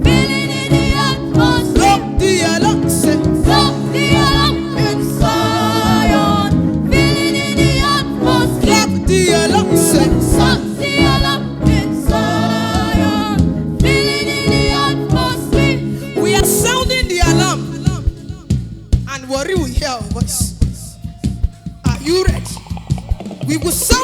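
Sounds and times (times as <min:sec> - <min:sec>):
voices singing worship music: 0:00.0 - 0:19.0, 0:20.8 - 0:24.0
live band playing: 0:00.0 - 0:24.0.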